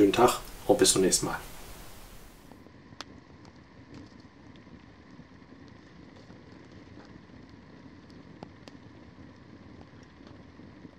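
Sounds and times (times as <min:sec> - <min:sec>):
campfire crackling and popping: 0:00.0 - 0:10.9
low fire hiss: 0:00.0 - 0:10.9.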